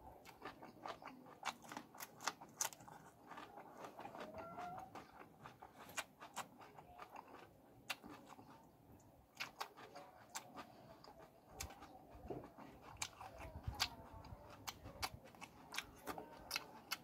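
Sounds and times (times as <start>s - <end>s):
wet chewing and lip smacks: 0.0s - 17.0s.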